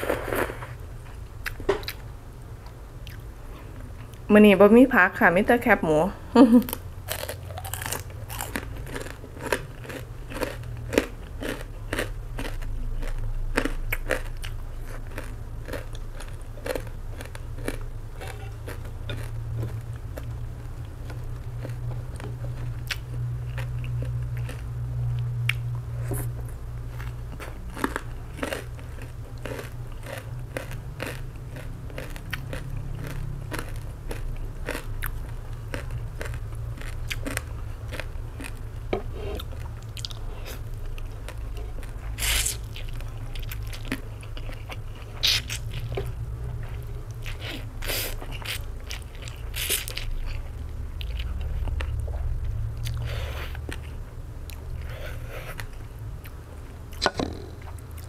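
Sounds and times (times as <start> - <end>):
steady low hum: 0.0 - 58.0
crunchy chewing: 6.7 - 58.0.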